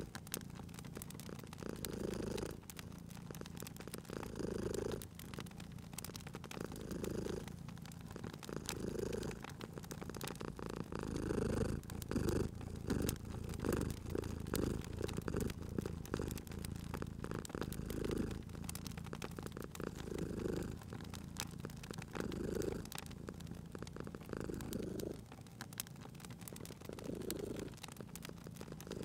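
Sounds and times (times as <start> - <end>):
cat purring: 0.0 - 29.0
fireplace fire crackling: 0.0 - 29.0.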